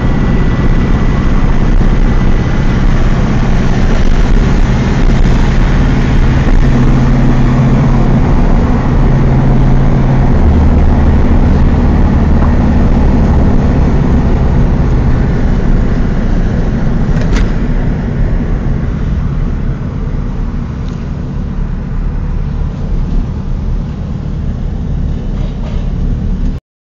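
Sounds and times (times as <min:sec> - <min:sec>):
car engine droning: 0:00.0 - 0:26.6
road noise: 0:00.0 - 0:26.6.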